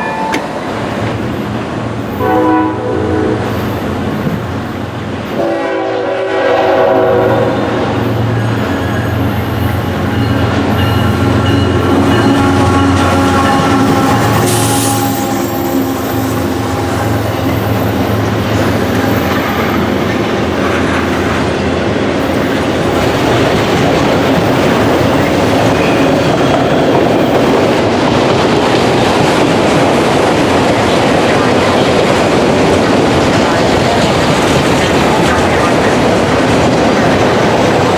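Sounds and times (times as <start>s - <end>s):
train cars clattering over rails: 0.0s - 2.5s, 7.1s - 37.9s
train engine drone: 0.0s - 37.9s.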